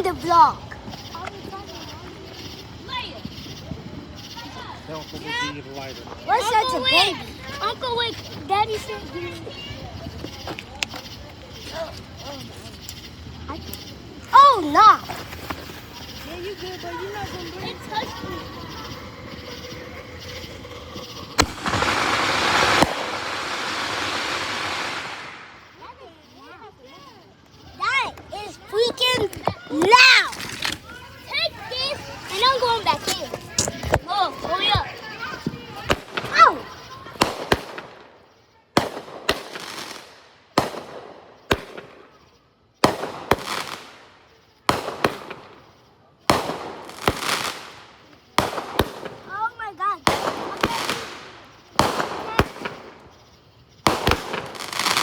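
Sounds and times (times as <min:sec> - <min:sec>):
firework hissing spray: 0:00.0 - 0:26.5, 0:27.6 - 0:38.3, 0:38.9 - 0:55.0
firework bangs: 0:00.0 - 0:55.0.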